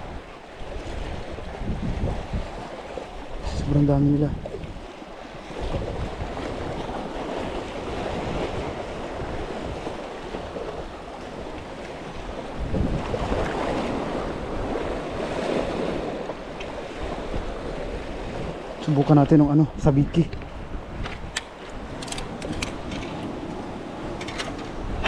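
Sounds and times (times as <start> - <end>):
sea surf breaking on rocks: 0.0 - 25.0
wind buffeting microphone: 0.0 - 25.0.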